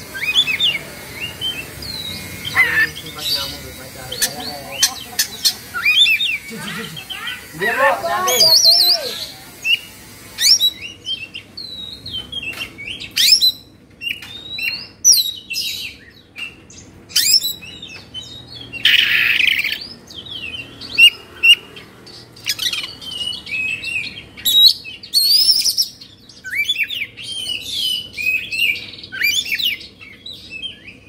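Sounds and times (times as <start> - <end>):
bird song with whistles and chirps: 0.0 - 31.0.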